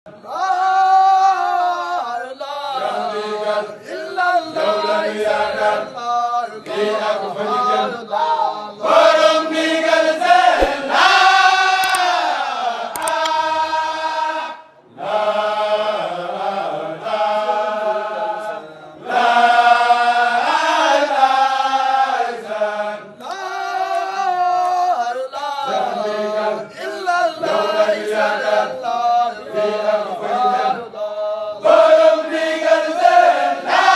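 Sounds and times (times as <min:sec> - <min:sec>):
men chanting together: 0:00.2 - 0:33.9.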